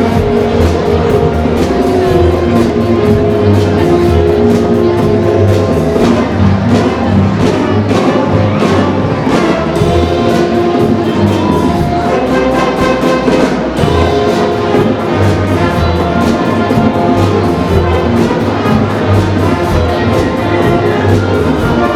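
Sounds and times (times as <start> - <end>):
brass horns: 0.0 - 21.9
drums and cymbals: 0.0 - 21.9
jazz band playing: 0.0 - 21.9.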